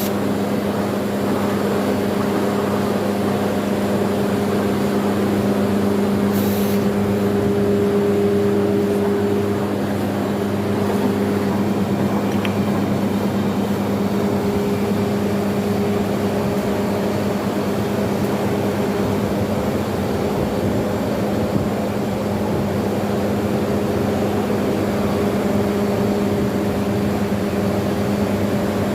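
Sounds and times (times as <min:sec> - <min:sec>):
vacuum pump humming: 0:00.0 - 0:28.9.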